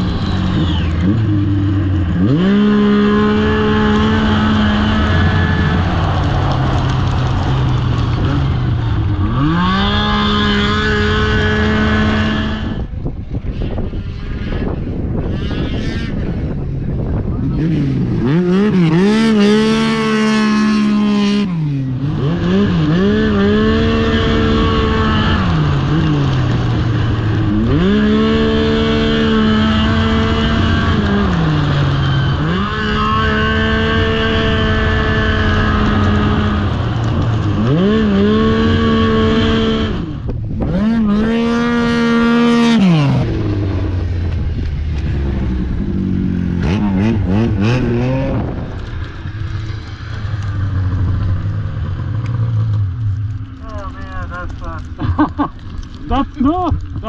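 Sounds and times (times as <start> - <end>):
snowmobile engine accelerating: 0.0 - 57.0.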